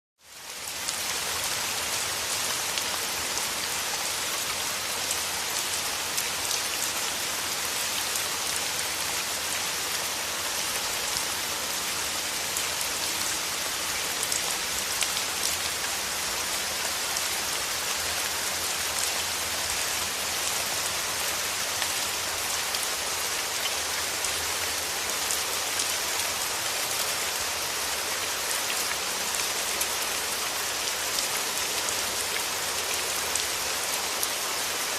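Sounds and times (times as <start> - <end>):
rain on a hard surface: 0.2 - 34.9.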